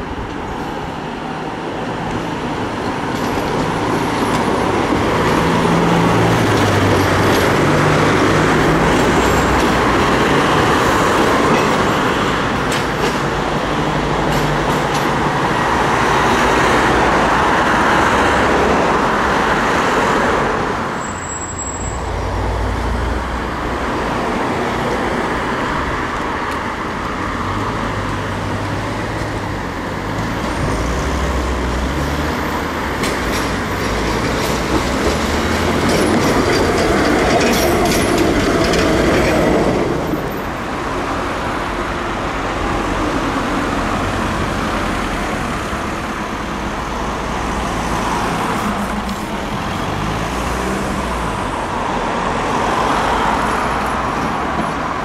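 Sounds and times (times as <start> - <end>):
passing car traffic: 0.0 - 55.0
tram running on street track: 0.0 - 55.0
tram wheels clicking over rails: 0.1 - 21.0, 22.1 - 55.0.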